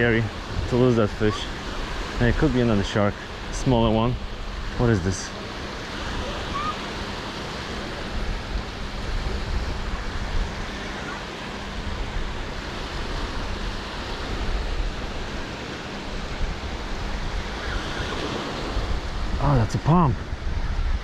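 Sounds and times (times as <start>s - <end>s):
surf washing on beach: 0.0s - 21.0s
wind buffeting microphone: 0.0s - 21.0s.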